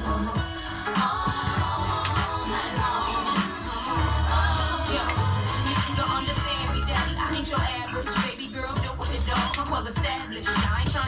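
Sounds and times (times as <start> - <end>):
hip hop music with heavy bass: 0.0 - 11.0.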